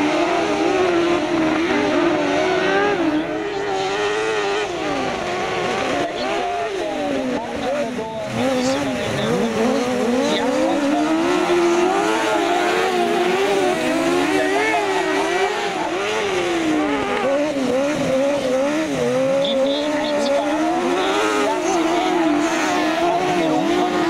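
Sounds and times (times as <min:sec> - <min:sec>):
racing buggy engines revving: 0:00.0 - 0:24.0.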